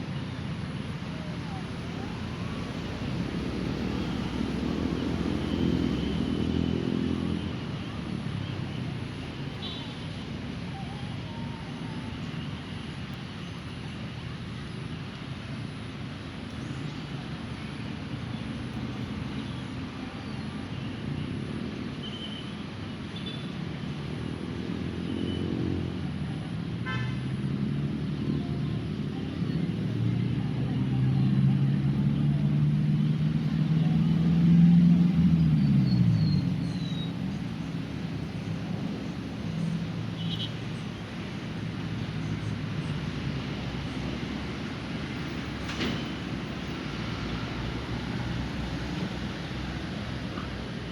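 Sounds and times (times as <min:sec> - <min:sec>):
road traffic engine rumble: 0:00.0 - 0:50.9.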